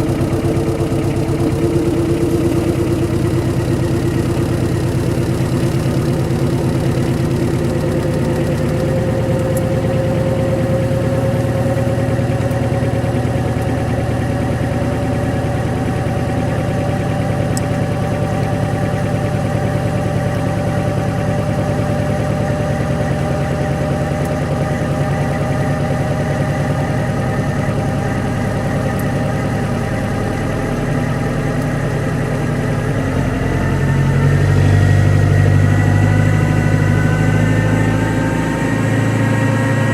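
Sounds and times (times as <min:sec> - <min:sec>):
car engine idling with whine: 0:00.0 - 0:39.9.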